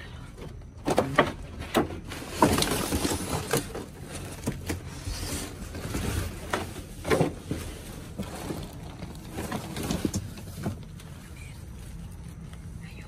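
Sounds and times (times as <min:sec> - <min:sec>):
trash rustling: 0:00.4 - 0:12.8.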